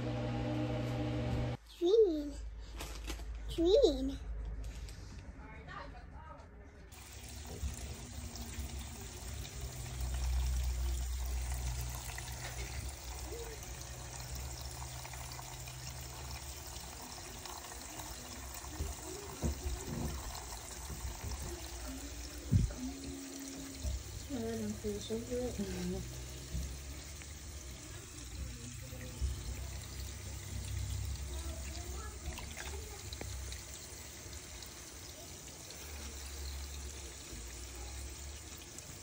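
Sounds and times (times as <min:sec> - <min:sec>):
sink faucet running: 0:06.9 - 0:39.0.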